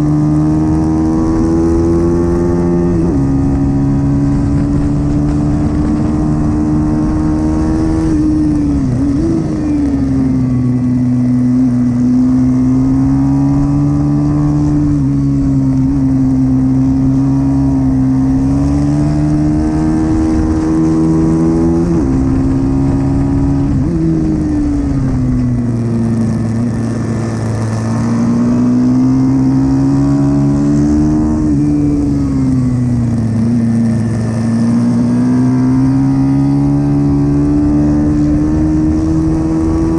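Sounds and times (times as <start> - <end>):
small motorcycle engine racing: 0.0 - 39.9.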